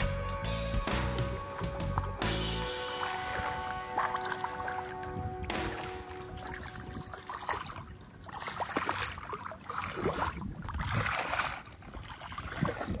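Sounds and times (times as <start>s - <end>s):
water sloshing around wading legs: 1.4s - 13.0s.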